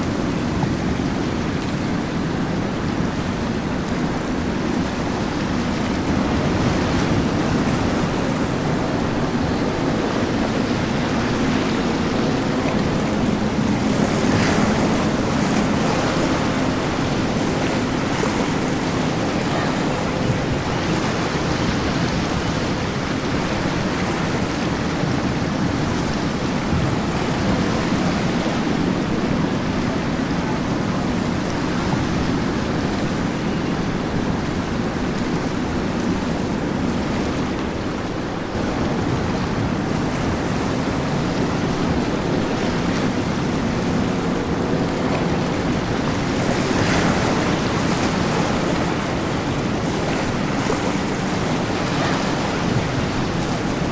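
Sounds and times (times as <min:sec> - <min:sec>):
boat engine drone: 0:00.0 - 0:53.9
hull spray and wake rushing: 0:00.0 - 0:53.9.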